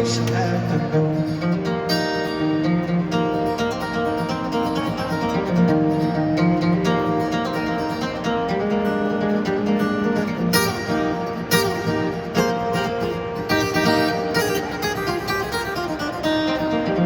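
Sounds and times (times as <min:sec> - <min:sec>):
acoustic guitar strumming: 0:00.0 - 0:17.0
sustained melody notes: 0:00.0 - 0:17.0.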